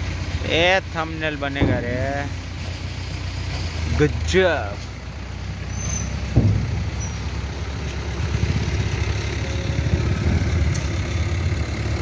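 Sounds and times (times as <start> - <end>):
diesel engine throbbing: 0.0 - 12.0.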